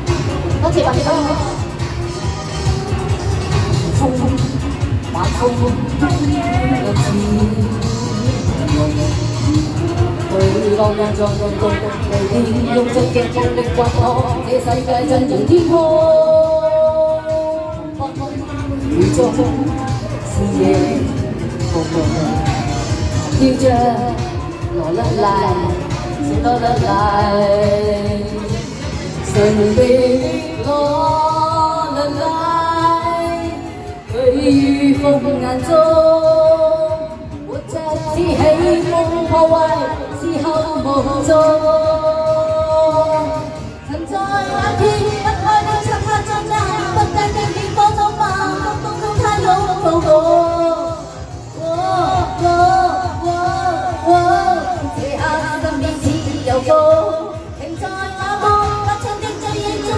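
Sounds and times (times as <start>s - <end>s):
amplified pop accompaniment: 0.0s - 59.9s
woman singing into a microphone: 0.0s - 59.9s.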